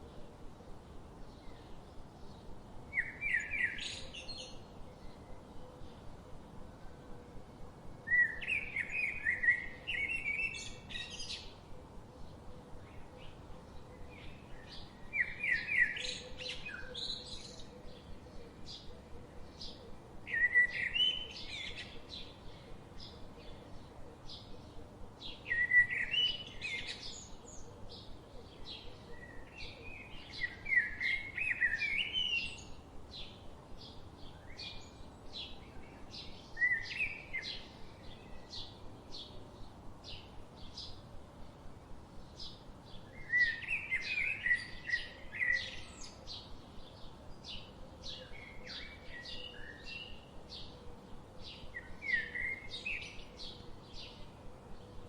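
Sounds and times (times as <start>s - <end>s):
birds warbling song: 8.1s - 55.0s.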